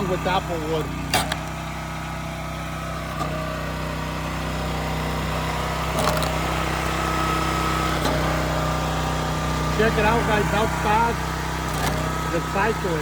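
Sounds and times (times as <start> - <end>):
log splitter gas engine running: 0.0 - 13.0.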